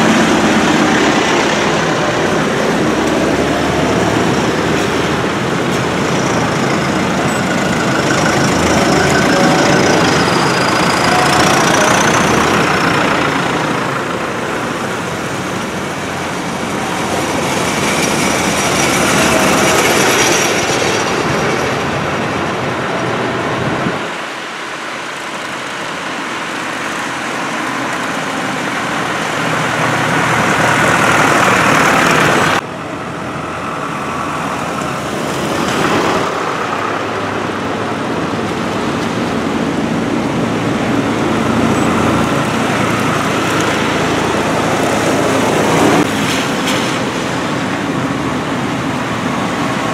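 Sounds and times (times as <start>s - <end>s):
tractor diesel engines passing: 0.0s - 49.9s.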